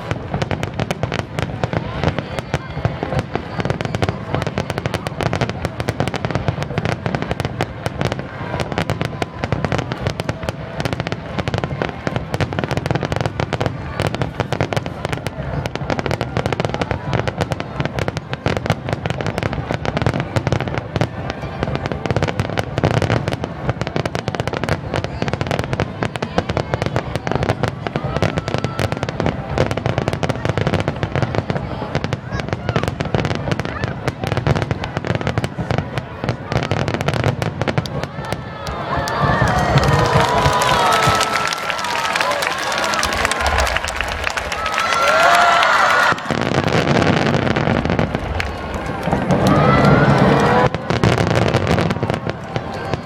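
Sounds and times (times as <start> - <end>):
fireworks crackling and banging: 0.0 - 53.0.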